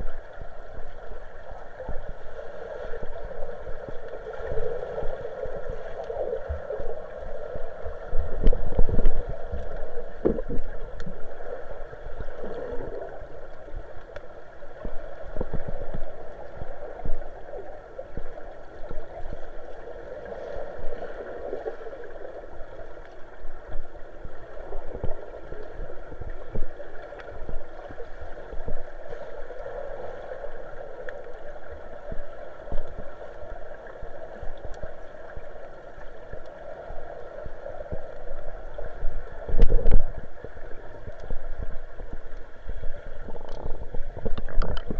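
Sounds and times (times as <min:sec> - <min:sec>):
underwater gurgling rush: 0:00.0 - 0:44.9.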